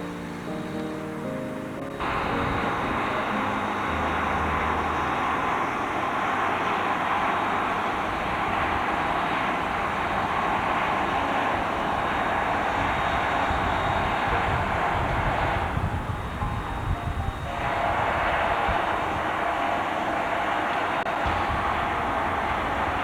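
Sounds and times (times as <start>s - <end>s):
train rushing roar: 0.0s - 23.0s
low hum: 1.9s - 23.0s.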